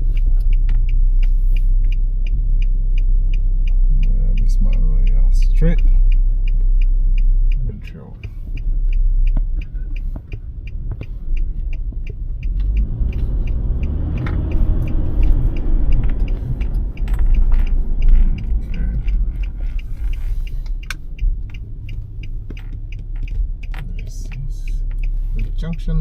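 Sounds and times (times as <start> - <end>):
car engine: 0.0 - 26.0
regular ticking: 0.0 - 26.0
road rumble: 0.0 - 26.0.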